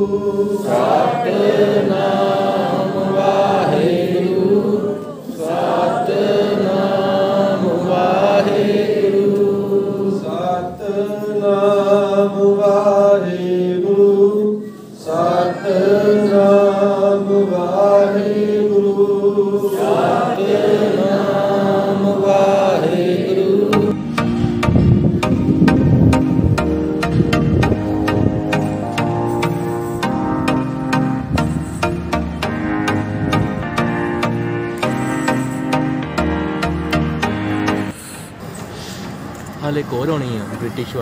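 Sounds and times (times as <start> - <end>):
devotional hymn singing: 0.0 - 38.0.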